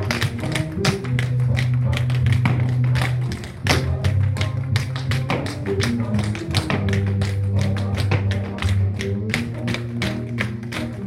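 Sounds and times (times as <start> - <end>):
recorded music with bass line: 0.0 - 11.0
tap shoes striking floor: 0.0 - 11.0.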